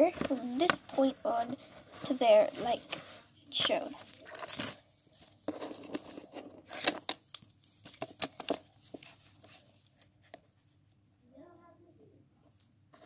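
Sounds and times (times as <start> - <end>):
paper rustling and crinkling: 0.0 - 10.8.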